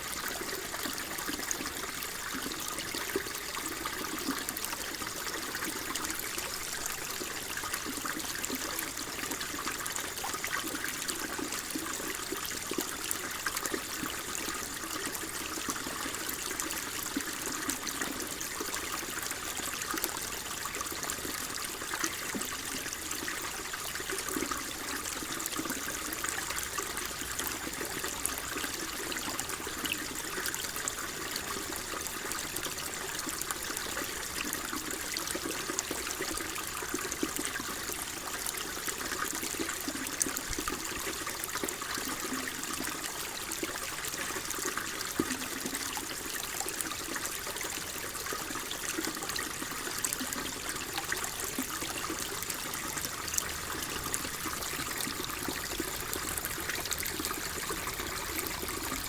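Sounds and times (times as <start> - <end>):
water flowing and trickling: 0.0 - 59.0.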